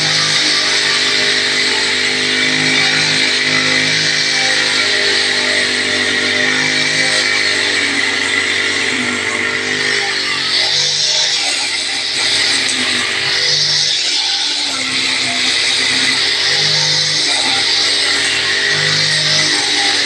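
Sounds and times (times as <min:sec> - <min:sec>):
string trimmer engine: 0:00.0 - 0:20.0
trimmer line cutting grass: 0:00.0 - 0:20.0.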